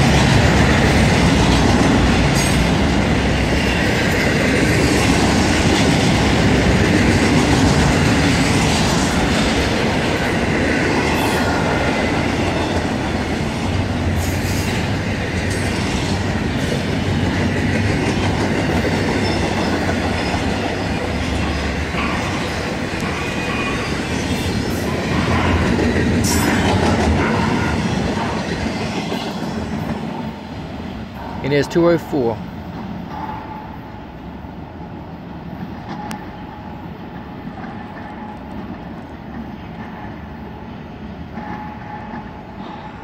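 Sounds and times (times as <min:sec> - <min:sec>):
steel wheels on rail: 0:00.0 - 0:43.0.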